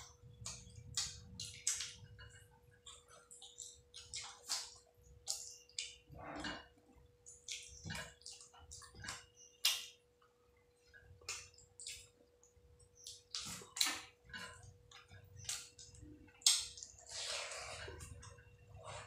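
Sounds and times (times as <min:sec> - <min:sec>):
chewing and lip smacks: 0:00.0 - 0:10.0, 0:10.8 - 0:19.0.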